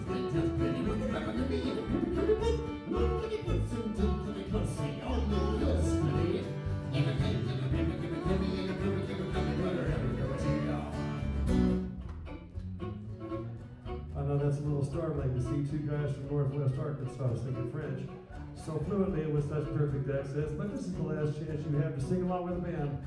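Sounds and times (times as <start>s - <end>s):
bass line: 0.0s - 23.0s
fiddle: 0.0s - 23.0s
strummed acoustic guitar: 0.0s - 23.0s.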